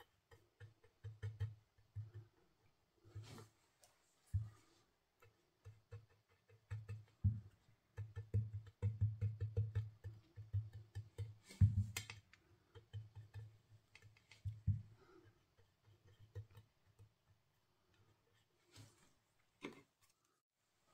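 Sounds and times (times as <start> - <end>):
brush dabbing on paper: 0.0 - 19.2.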